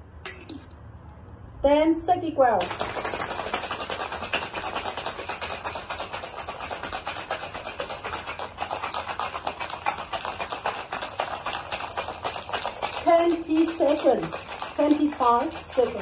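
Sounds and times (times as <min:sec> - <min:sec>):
ice rattling in cocktail shaker: 0:02.6 - 0:16.0.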